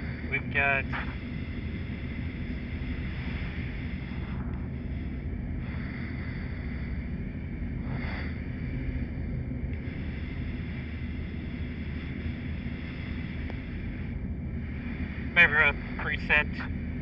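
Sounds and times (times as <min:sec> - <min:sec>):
turboprop engine idling: 0:00.0 - 0:17.0.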